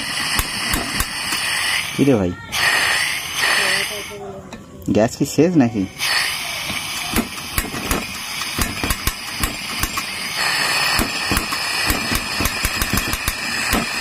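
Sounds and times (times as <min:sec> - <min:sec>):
gas stove hissing: 0:00.0 - 0:04.3, 0:05.8 - 0:14.0.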